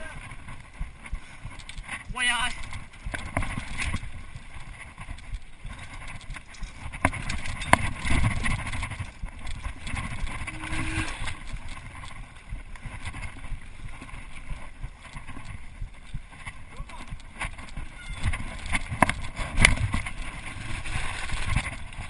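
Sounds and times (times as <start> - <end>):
bike rattling and knocking: 0.0 - 22.0
bike tyre noise: 0.0 - 22.0
wind on microphone: 0.0 - 22.0.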